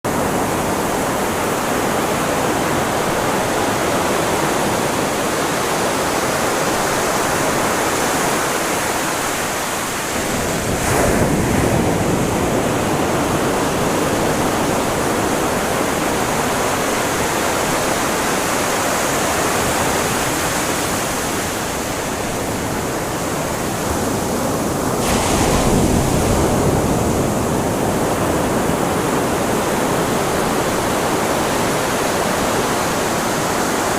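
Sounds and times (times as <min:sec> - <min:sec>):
big wave crashing: 0:00.1 - 0:33.9
waves breaking on beach: 0:00.1 - 0:33.9.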